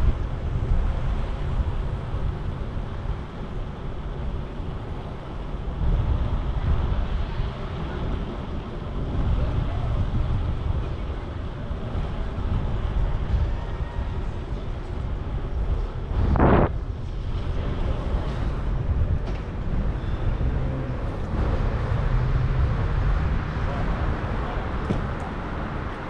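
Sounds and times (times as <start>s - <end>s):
street traffic noise: 0.0s - 26.0s
wind buffeting microphone: 0.0s - 26.0s.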